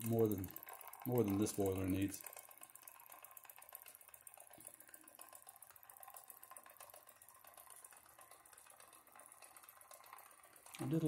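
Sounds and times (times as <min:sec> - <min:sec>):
steam engine ticking and hissing: 0:00.0 - 0:11.0.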